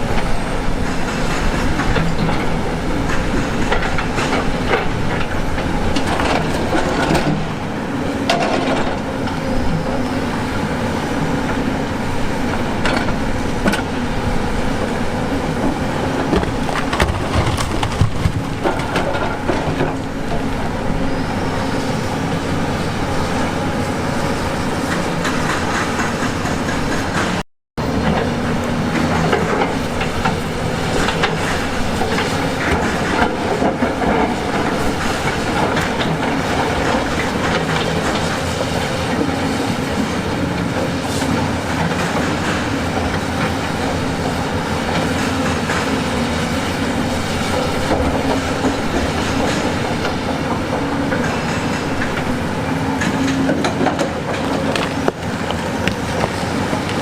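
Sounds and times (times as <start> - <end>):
steel tracks clanking on rock: 0.0 - 10.2, 11.3 - 22.0, 24.4 - 57.0
diesel engine running: 0.0 - 57.0.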